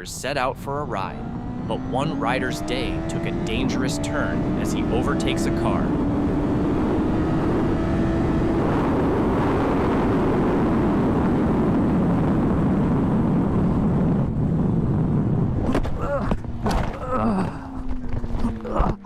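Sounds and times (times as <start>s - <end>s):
motorcycle engine at speed: 0.4s - 19.0s.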